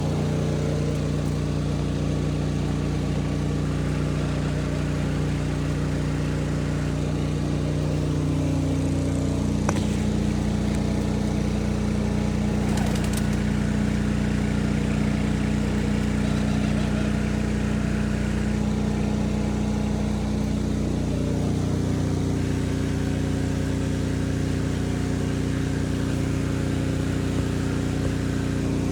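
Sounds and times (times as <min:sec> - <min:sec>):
motor humming: 0:00.0 - 0:28.9.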